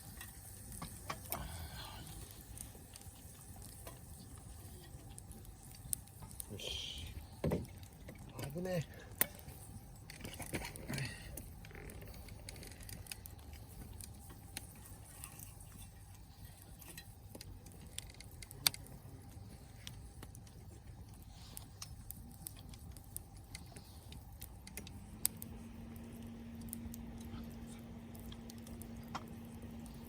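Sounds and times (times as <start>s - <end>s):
campfire crackling and popping: 0.0s - 30.0s
steady low hum: 0.0s - 30.0s.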